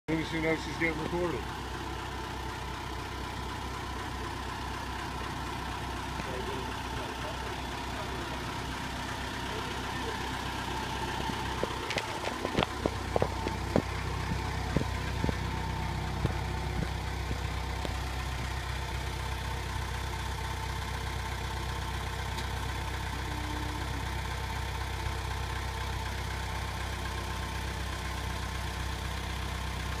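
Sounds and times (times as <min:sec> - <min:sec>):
engine idling: 0:00.1 - 0:30.0.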